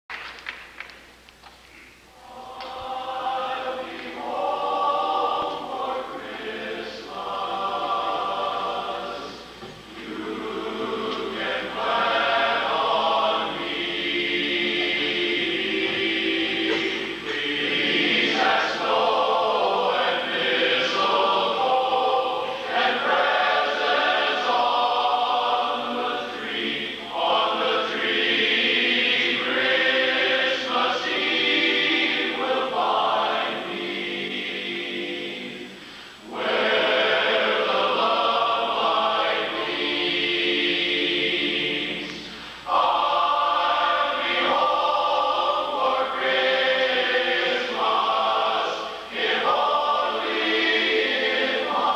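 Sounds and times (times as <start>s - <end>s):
men's chorus singing a cappella: 2.2s - 51.9s.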